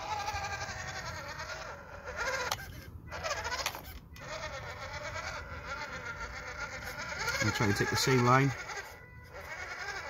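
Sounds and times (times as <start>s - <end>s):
toy truck motor whining: 0.0s - 10.0s.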